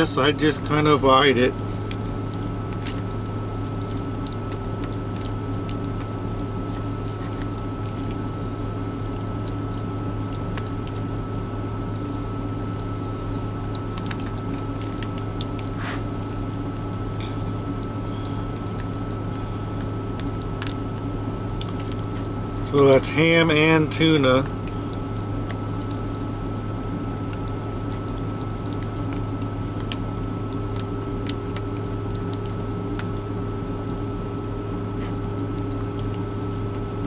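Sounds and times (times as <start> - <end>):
low hum inside truck cab: 0.0 - 37.0.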